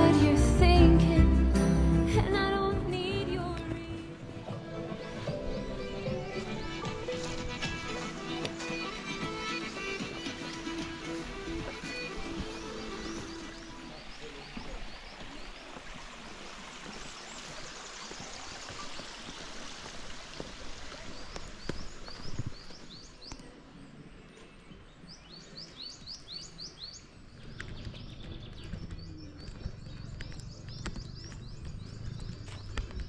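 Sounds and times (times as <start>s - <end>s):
small birds chirping: 5.2s - 33.0s.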